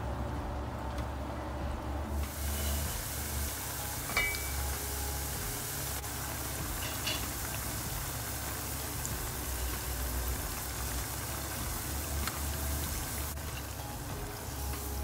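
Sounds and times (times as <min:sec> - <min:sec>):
oil sizzling while deep-frying: 0:02.1 - 0:15.0.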